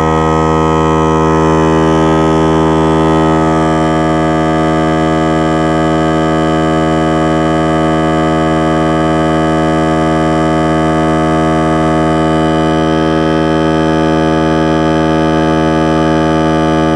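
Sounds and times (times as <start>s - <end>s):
electric air compressor running: 0.0s - 16.9s.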